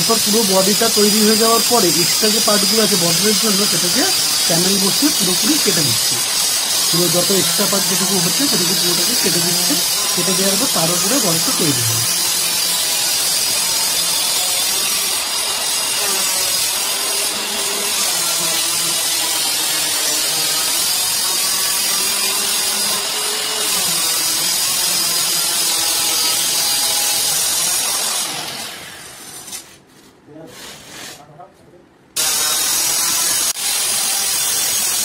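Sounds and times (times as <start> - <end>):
electric cutter sawing marble: 0.0 - 29.6, 32.2 - 35.0.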